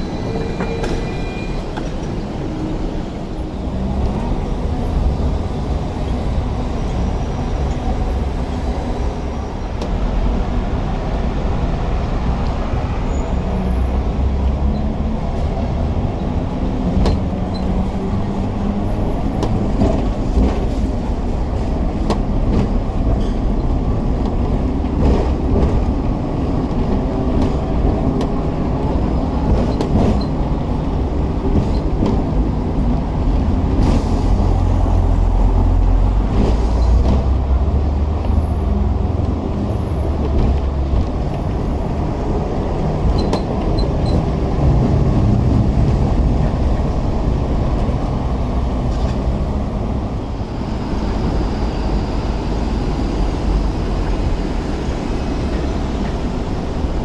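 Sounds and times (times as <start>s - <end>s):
tram rumbling on rails: 0.0s - 57.0s.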